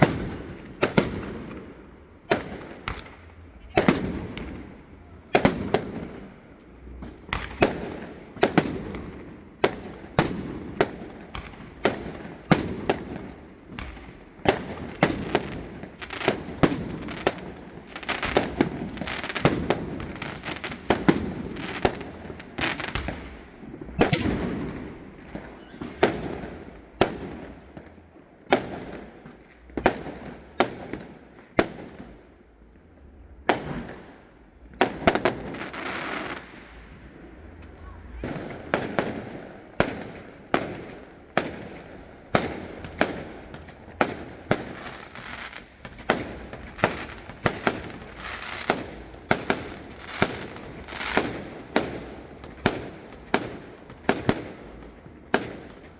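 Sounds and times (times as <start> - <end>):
fireworks bangs: 0.0 - 55.9
fireworks crackling: 0.0 - 55.9.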